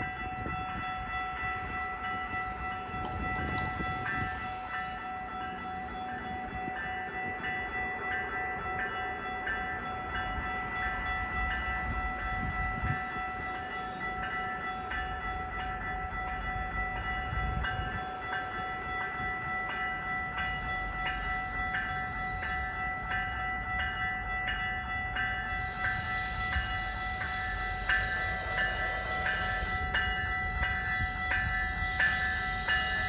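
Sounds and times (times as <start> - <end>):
low rumble of train: 0.0 - 33.0
train bell ringing: 0.0 - 33.0.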